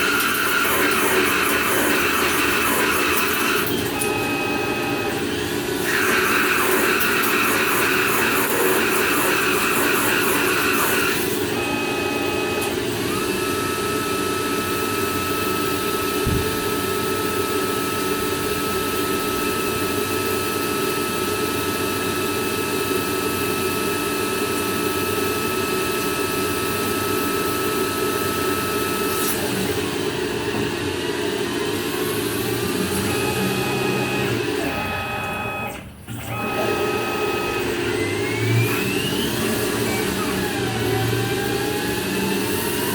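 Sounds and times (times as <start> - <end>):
metal lathe motor whine: 0.0 - 42.9.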